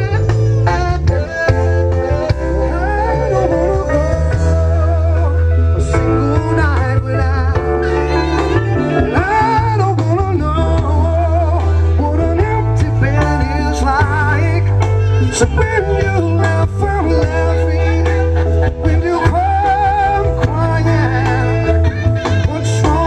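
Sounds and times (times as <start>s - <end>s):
live band playing blues soul: 0.0s - 23.0s
man singing: 0.0s - 23.0s
steady bass line: 0.0s - 23.0s
wavering lead melody: 0.0s - 23.0s.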